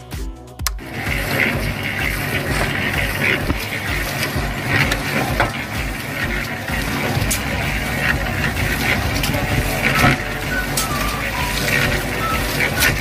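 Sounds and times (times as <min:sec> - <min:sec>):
toy gear motor running: 0:00.8 - 0:13.0
scoop scraping cement powder: 0:00.9 - 0:13.0.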